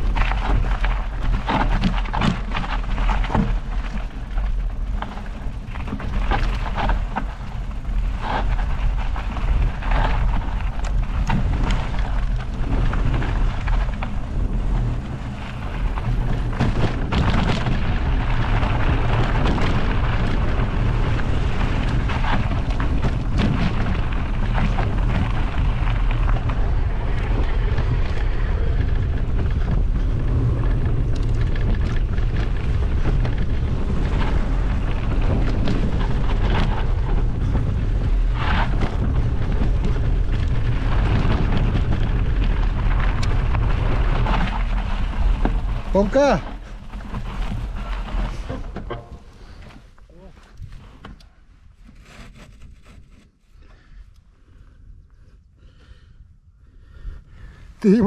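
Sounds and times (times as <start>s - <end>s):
bicycle knocks and rattles: 0.0s - 51.2s
wind buffeting microphone: 0.0s - 51.8s.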